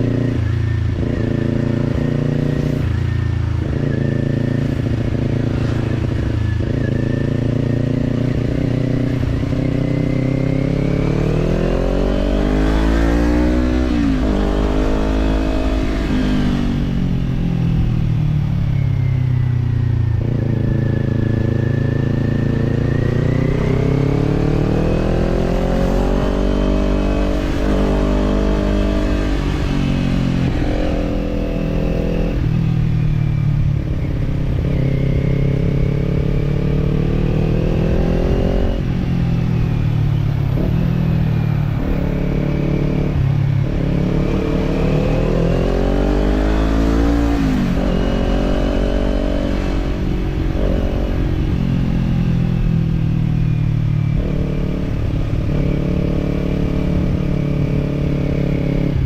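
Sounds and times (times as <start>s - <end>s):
motorcycle engine revving: 0.0s - 59.0s
wind and road rumble: 0.0s - 59.0s.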